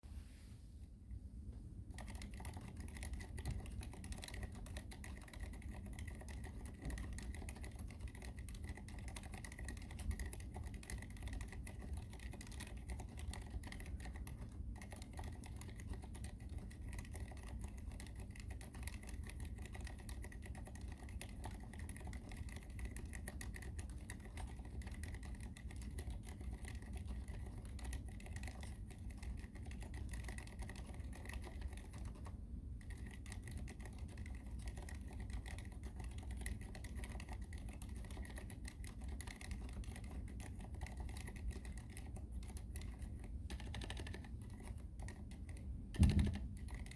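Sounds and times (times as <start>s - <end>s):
mechanical keyboard typing: 1.9s - 46.9s.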